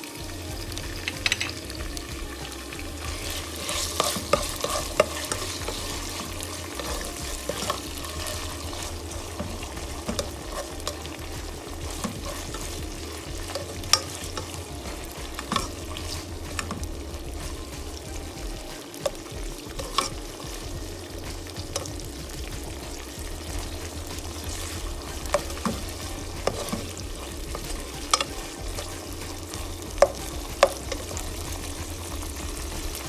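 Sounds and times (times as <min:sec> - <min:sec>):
fish sizzling in oil: 0:00.0 - 0:33.0
plastic spatula scraping pan: 0:03.0 - 0:18.0, 0:21.4 - 0:33.0.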